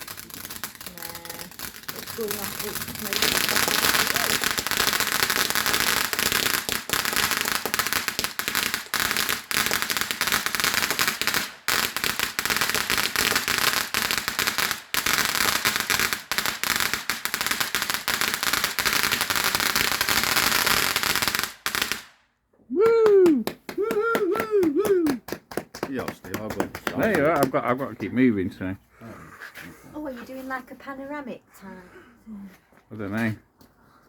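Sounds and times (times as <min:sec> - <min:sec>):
fireworks crackling: 0:00.0 - 0:22.2, 0:22.8 - 0:28.7.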